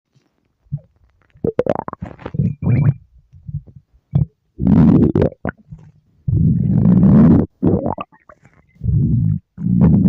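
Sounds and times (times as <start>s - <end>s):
stomach growling and gurgling: 0.6s - 10.0s.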